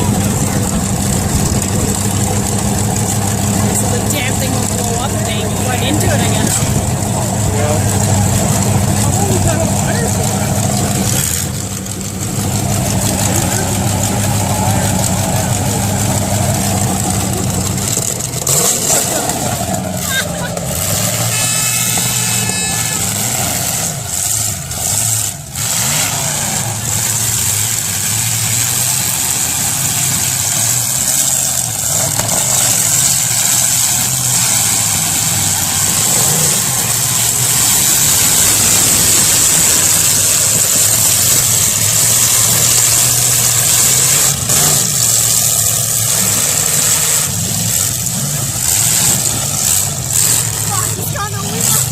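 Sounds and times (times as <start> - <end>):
car engines running loud: 0.0 - 51.9.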